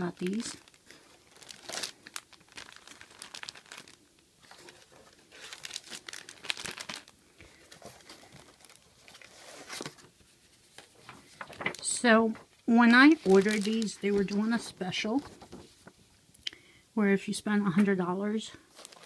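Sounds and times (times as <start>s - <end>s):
plastic bags crinkling: 0.0s - 16.1s, 18.7s - 19.0s.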